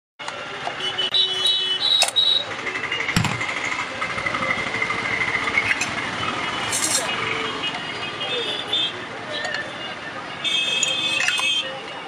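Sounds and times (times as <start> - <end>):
roadside traffic: 0.2 - 12.0.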